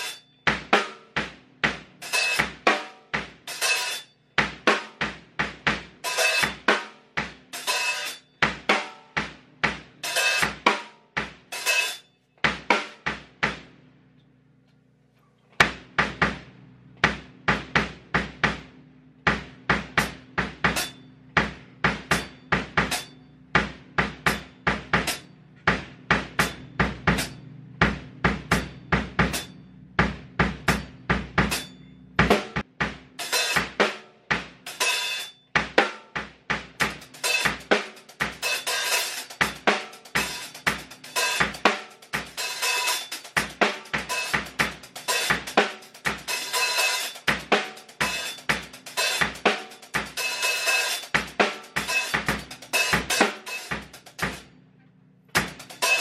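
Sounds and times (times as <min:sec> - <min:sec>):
cymbals: 0:00.0 - 0:13.2, 0:19.3 - 0:54.5, 0:55.4 - 0:56.0
kick and snare drum beat: 0:00.0 - 0:13.7, 0:15.6 - 0:54.5, 0:55.3 - 0:56.0.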